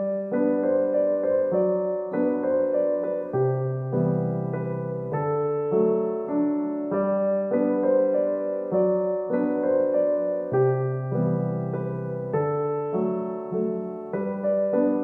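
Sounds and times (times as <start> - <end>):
instrumental keyboard music: 0.0 - 15.0.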